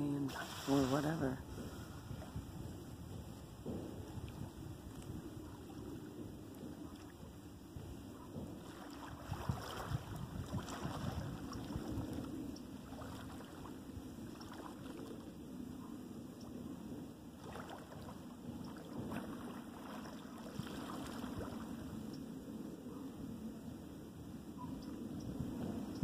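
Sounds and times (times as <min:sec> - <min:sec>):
faint water movement: 0:00.0 - 0:23.3
wind buffeting microphone: 0:00.0 - 0:26.0.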